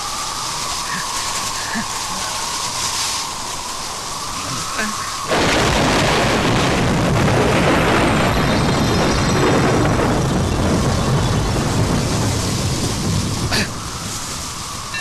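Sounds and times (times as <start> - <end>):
deep steady rumble: 0.0 - 15.0
rushing wind: 0.0 - 15.0.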